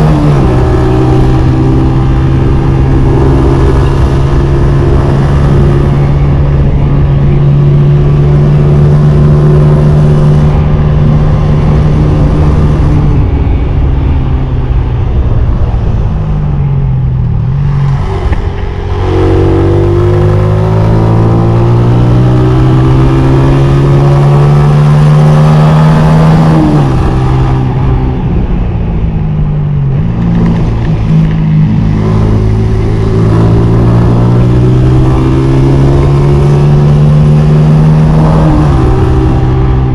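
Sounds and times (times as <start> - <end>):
motorcycle engine revving: 0.0 - 13.7, 17.4 - 28.9, 29.8 - 39.9.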